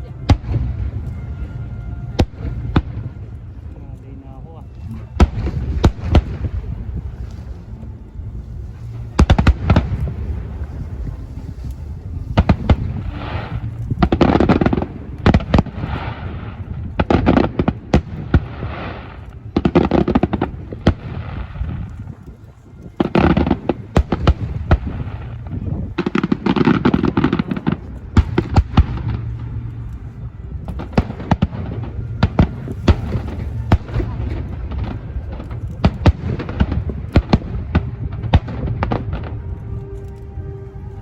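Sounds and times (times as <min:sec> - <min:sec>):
fireworks bangs and booms: 0:00.0 - 0:03.6, 0:04.7 - 0:07.6, 0:08.6 - 0:41.0
crackling fireworks shells fizzing: 0:00.0 - 0:41.0.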